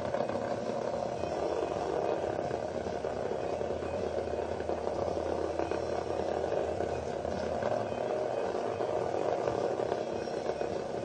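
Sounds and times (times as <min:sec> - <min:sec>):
vibrating bug toy buzzing: 0:00.0 - 0:11.0.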